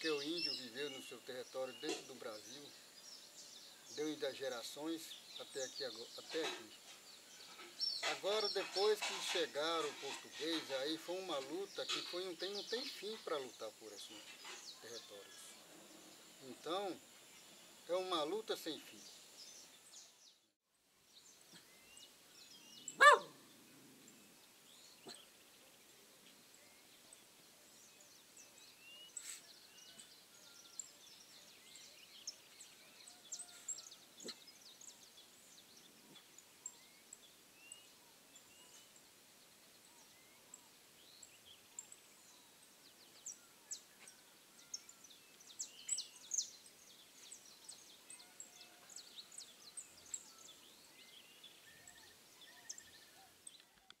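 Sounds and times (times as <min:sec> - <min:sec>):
background hiss: 0:00.0 - 0:54.0
birds chirping: 0:00.0 - 0:54.0.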